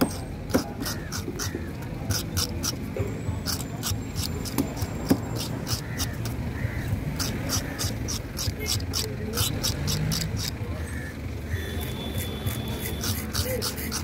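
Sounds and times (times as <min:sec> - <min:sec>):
scaler scraping fish scales: 0:00.1 - 0:06.4, 0:07.1 - 0:10.6, 0:11.8 - 0:14.0.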